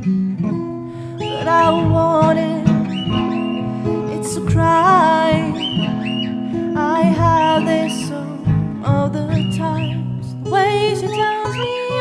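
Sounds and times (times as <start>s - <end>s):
acoustic guitar ringing notes: 0.1s - 10.7s
person singing: 1.0s - 12.0s.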